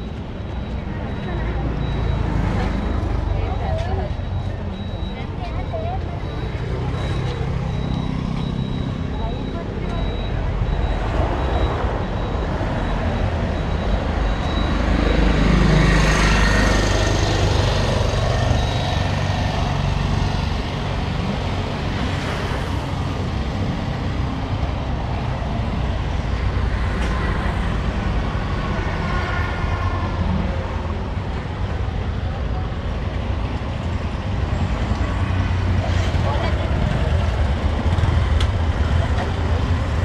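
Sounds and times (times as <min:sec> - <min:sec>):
traffic rumble: 0:00.0 - 0:40.0.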